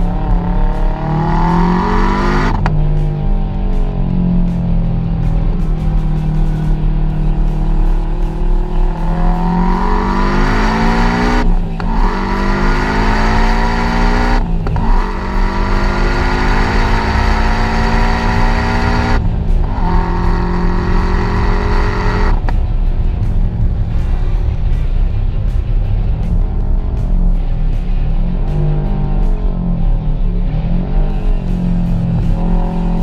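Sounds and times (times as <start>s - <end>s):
car engine accelerating through gears: 0.0s - 33.0s.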